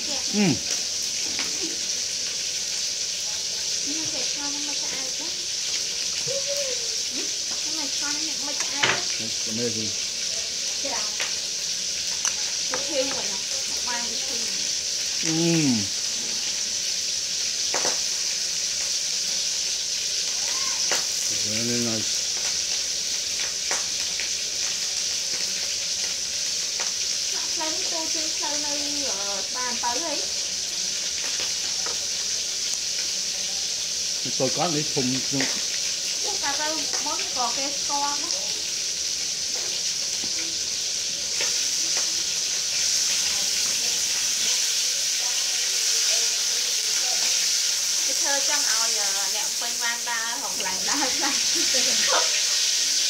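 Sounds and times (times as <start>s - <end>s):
high-pitched hiss: 0.0s - 53.0s.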